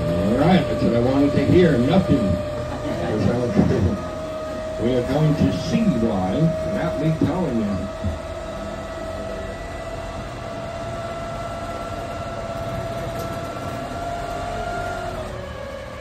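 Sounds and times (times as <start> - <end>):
boat motor whining: 0.0 - 16.0.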